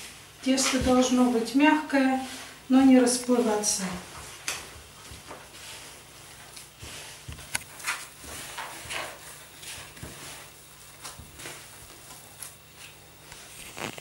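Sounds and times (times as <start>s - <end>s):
hands kneading sticky dough: 0.0s - 14.0s.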